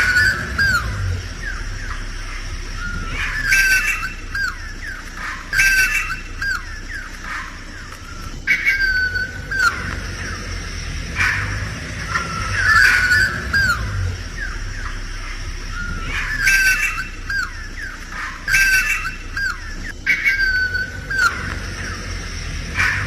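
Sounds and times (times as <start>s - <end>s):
bird whistling squawking calls: 0.0s - 23.0s.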